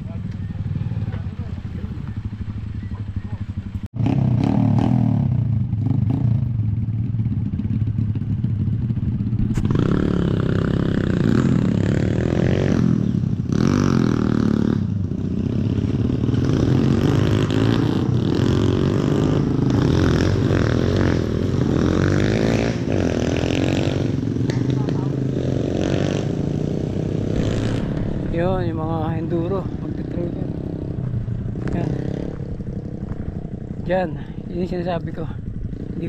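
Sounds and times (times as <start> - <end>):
motorcycle engines revving: 0.0 - 36.0.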